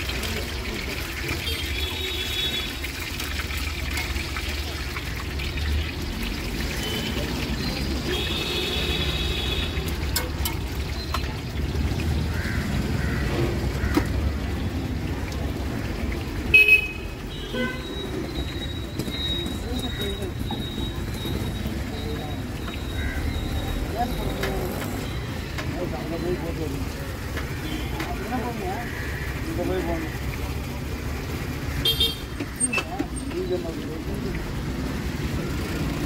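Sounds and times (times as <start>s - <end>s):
oil sizzling and bubbling: 0.0s - 36.0s.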